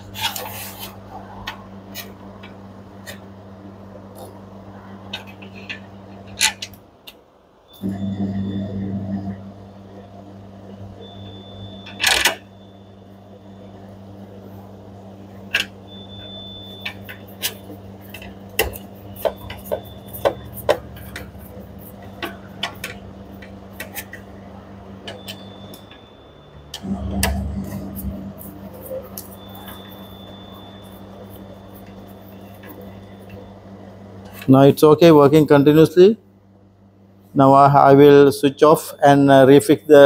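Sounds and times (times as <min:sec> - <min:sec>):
cooling fan motor humming: 0:00.0 - 0:40.0.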